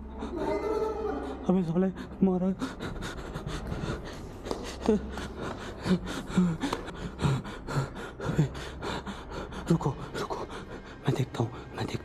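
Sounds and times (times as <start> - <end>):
person panting: 0.0 - 11.7.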